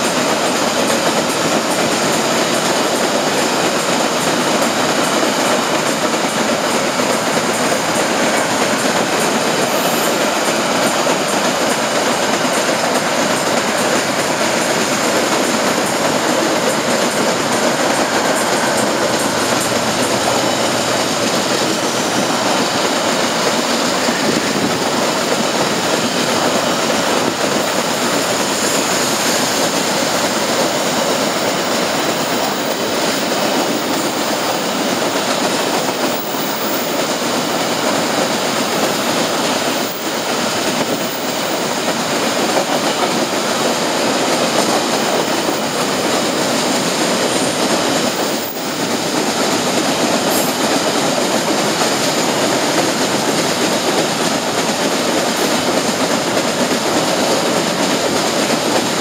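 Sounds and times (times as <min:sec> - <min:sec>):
freight train moving: 0:00.0 - 0:59.0
train wagons rolling on rails: 0:00.0 - 0:59.0.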